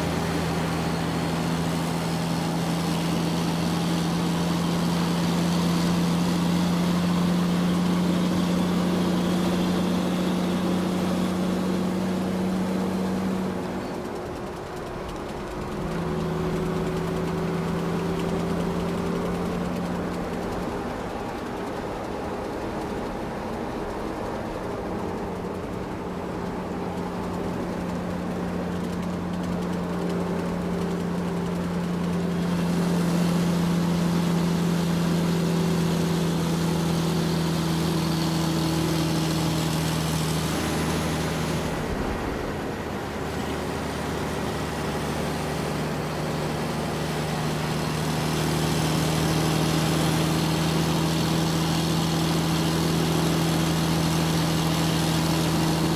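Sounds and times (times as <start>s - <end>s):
excavator diesel engine: 0.0s - 55.9s.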